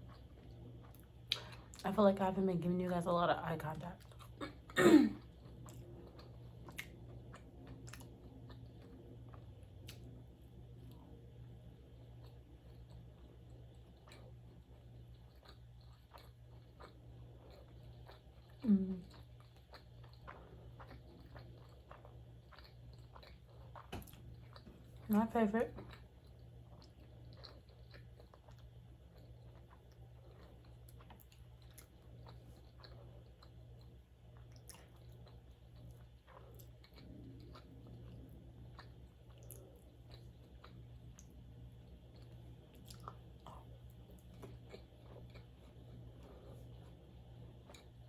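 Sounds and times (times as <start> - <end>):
chewing food: 0.0 - 48.0
faint steady hum: 0.0 - 48.0.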